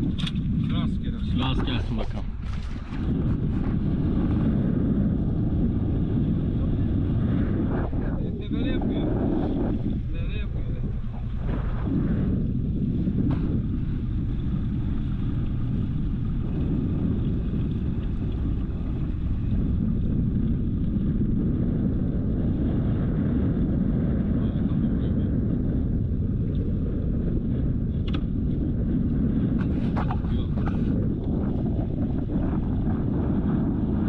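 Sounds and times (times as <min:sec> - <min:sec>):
boat motor rumbling: 0:00.0 - 0:34.0
wind buffeting microphone: 0:00.0 - 0:34.0.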